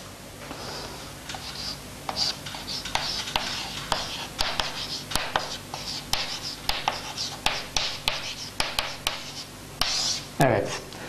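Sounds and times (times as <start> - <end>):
chalk tapping on blackboard: 1.3 - 10.2
chalk scratching on blackboard: 1.3 - 10.8.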